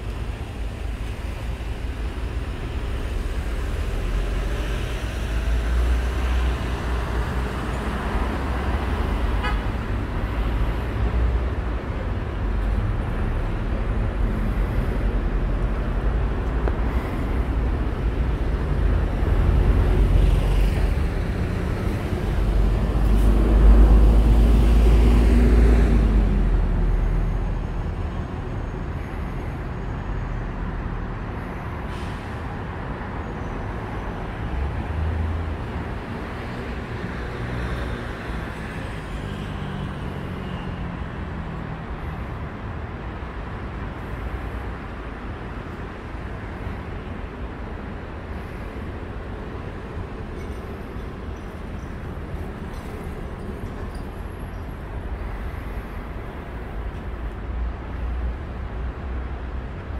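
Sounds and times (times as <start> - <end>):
road traffic hum: 0.0 - 59.9.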